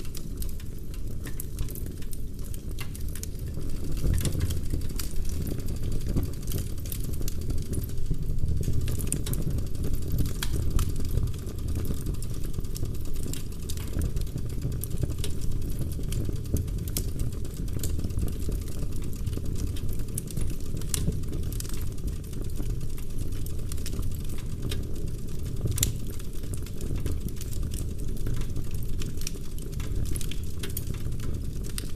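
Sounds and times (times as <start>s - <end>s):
logs crackling and popping: 0.0s - 31.9s
low roar of flames: 0.0s - 31.9s.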